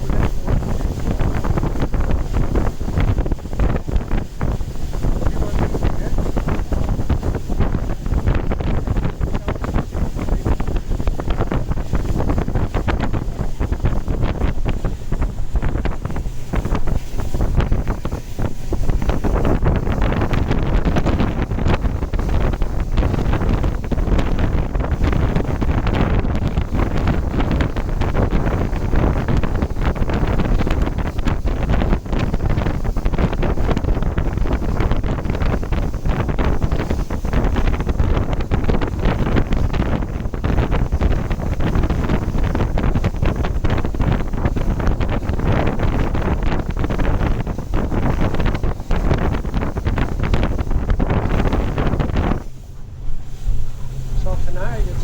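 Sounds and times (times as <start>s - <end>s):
boat and water rumble: 0.0s - 55.0s
wind buffeting microphone: 0.0s - 55.0s.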